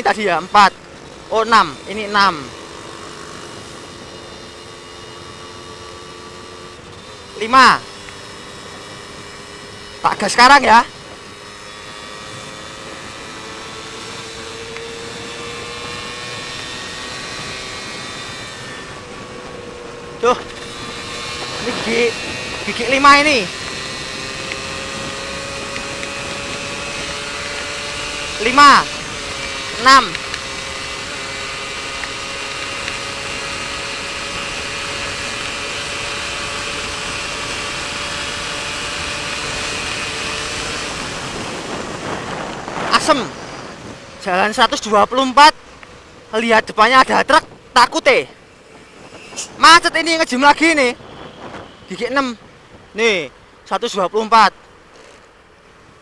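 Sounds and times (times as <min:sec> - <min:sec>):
motorcycle engine at full throttle: 0:00.0 - 0:56.0
wind rushing over microphone: 0:06.4 - 0:56.0.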